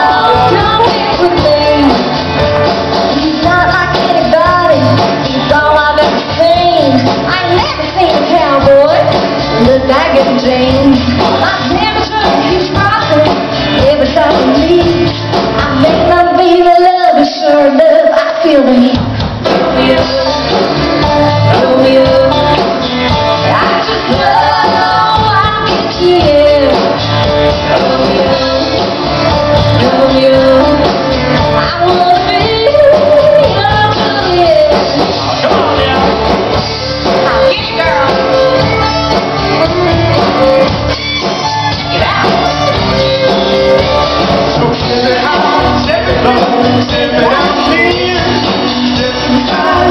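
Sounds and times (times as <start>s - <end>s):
woman singing: 0.0s - 2.2s, 3.0s - 35.2s, 37.0s - 40.9s, 41.7s - 49.9s
live band playing: 0.0s - 49.9s.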